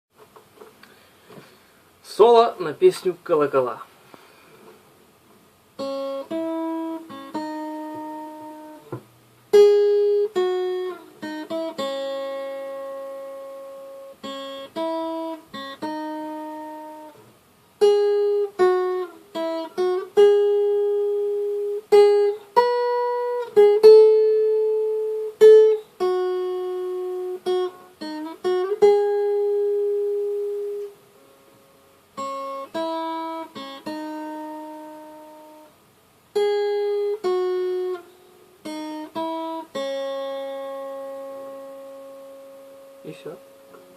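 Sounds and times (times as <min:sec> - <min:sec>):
guitar solo melody: 0:05.8 - 0:17.2, 0:17.8 - 0:31.5, 0:32.2 - 0:35.7, 0:36.3 - 0:43.9.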